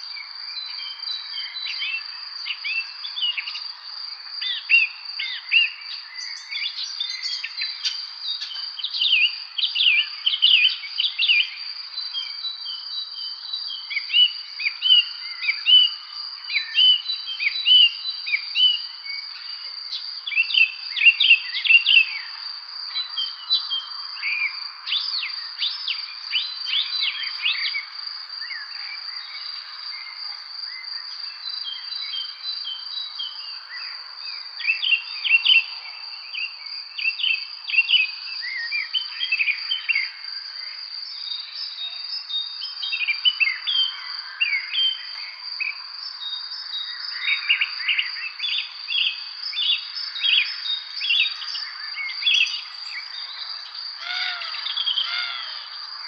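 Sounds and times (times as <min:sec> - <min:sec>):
songbirds chirping and singing: 0:00.0 - 0:56.0
high-pitched insect trill: 0:00.6 - 0:56.0.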